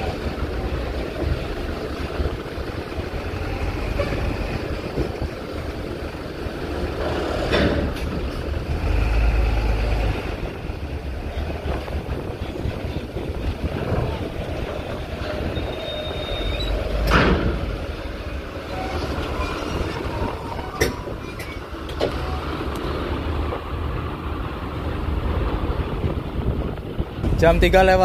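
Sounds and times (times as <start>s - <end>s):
heavy low surge: 0.0s - 28.0s
truck diesel engines running: 0.0s - 28.0s
wind buffeting microphone: 0.0s - 28.0s.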